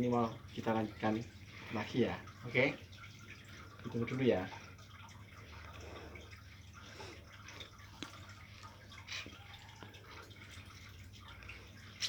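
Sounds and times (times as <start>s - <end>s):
small drips: 0.0s - 12.0s.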